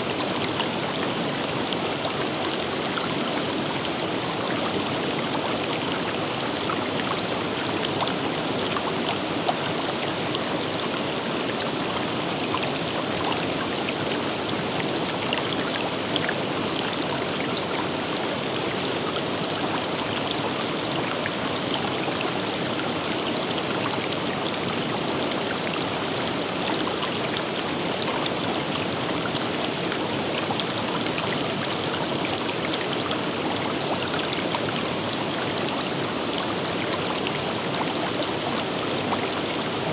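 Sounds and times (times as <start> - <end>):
river water rushing: 0.1 - 39.9.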